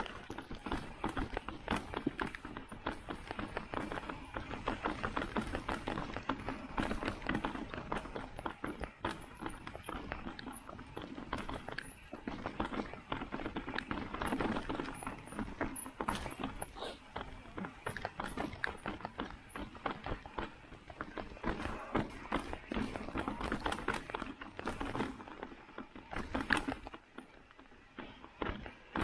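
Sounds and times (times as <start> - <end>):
mountain bike rattling over rocks: 0.0 - 29.0.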